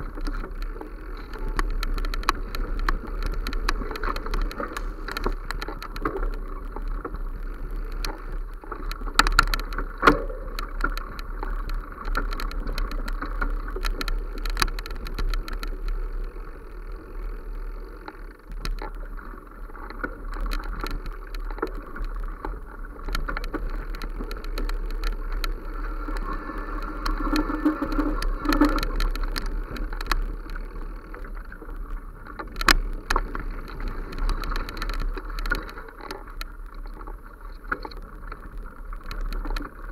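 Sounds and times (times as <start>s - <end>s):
small clicks and knocks: 0.0s - 39.9s
wind rumble on microphone: 0.0s - 39.9s.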